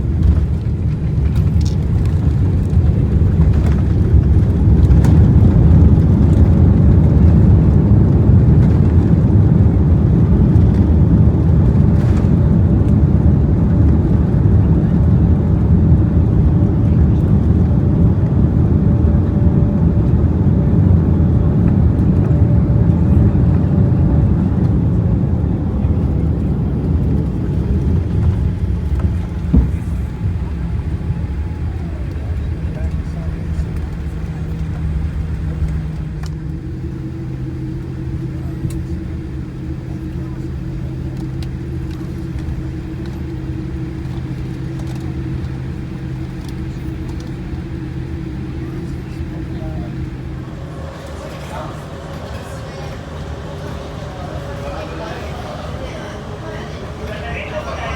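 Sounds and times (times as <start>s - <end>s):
faint steady hum: 0.0s - 57.9s
moving vehicle rumble: 0.0s - 57.9s.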